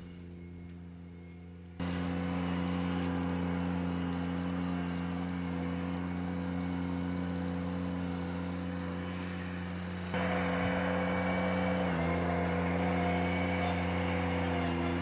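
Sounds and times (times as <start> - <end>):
tractor engine running: 0.0 - 15.0
power rake in soil: 1.8 - 15.0.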